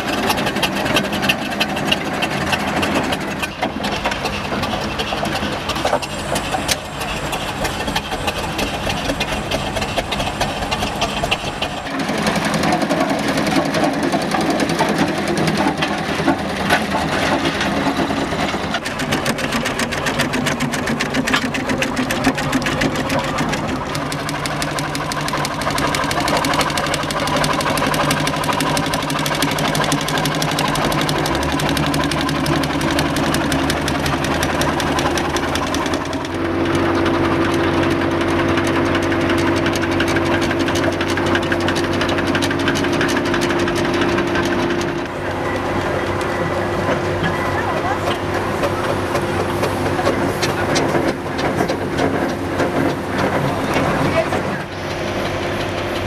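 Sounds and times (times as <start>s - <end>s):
steady engine tone: 0.0s - 56.0s
steam engine mechanical clatter: 0.0s - 56.0s.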